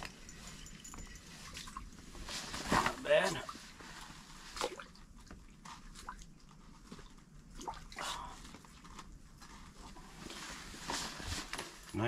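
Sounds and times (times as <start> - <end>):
clothing rustle: 0.0 - 7.5, 8.3 - 12.0.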